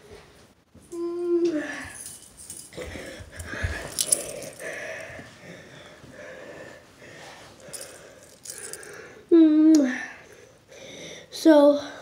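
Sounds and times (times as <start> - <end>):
heavy breathing: 1.5 - 9.3, 9.9 - 12.0.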